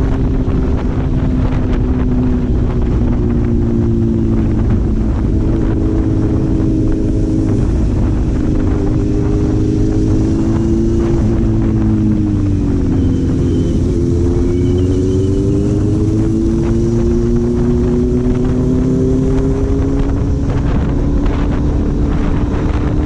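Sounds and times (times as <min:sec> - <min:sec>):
car engine running: 0:00.0 - 0:23.0
wind rumbling on microphone: 0:00.0 - 0:23.0.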